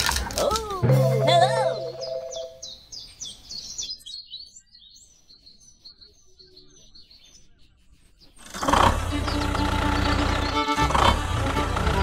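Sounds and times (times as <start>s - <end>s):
birds chirping: 0.4s - 12.0s.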